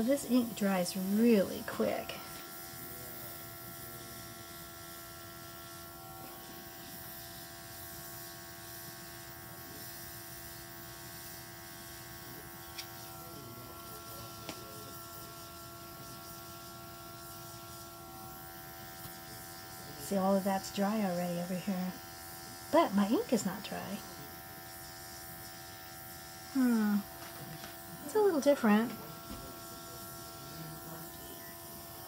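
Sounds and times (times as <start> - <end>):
airbrush compressor humming: 0.0 - 32.0.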